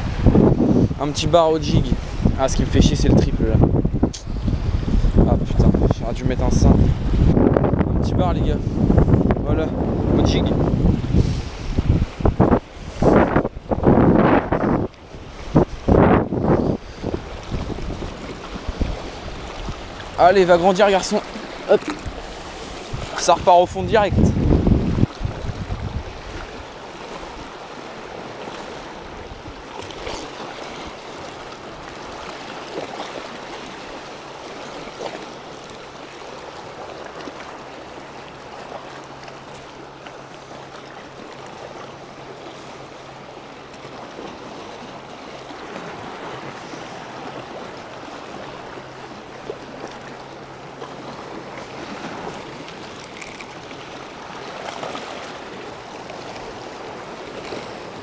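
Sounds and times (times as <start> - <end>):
sea water washing against rocks: 0.0 - 58.0.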